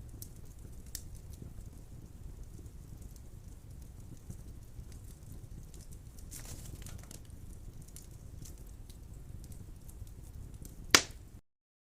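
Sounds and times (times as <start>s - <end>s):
low rumble of fire flames: 0.0s - 11.4s
wood fire crackles and pops: 0.0s - 11.4s.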